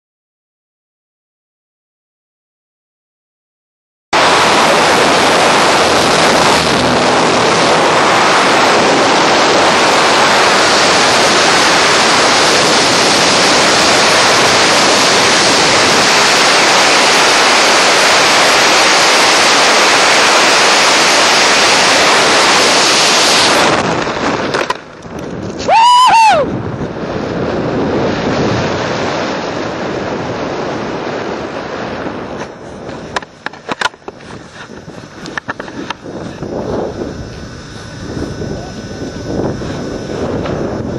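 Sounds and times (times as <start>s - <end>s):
wind blasting microphone: 4.2s - 40.9s.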